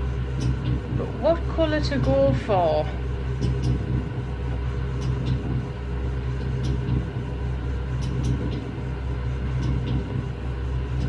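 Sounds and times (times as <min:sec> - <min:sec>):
electric mixers humming and whining: 0:00.0 - 0:11.0.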